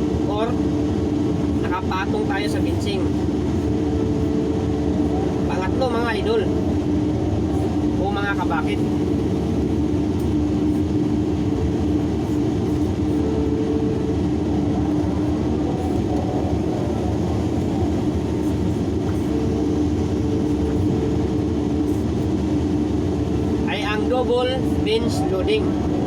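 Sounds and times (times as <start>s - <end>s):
excavator diesel engine drone: 0.0s - 26.0s
steady hydraulic hum: 0.0s - 26.0s.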